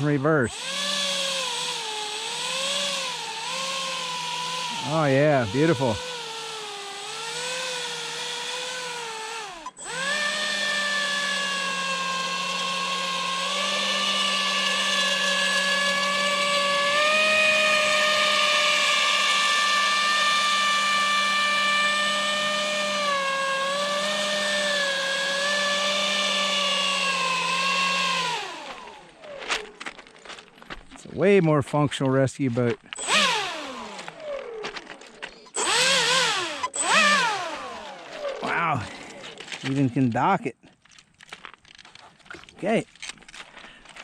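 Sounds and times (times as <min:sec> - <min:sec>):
electric motor whining: 0:00.0 - 0:30.8, 0:32.9 - 0:40.1.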